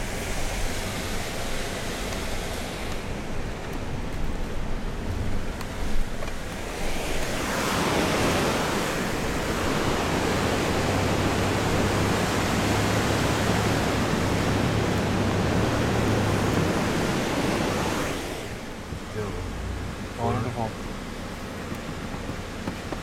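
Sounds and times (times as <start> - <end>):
low engine hum: 0.0 - 23.0
whitewater river rushing: 0.0 - 23.0.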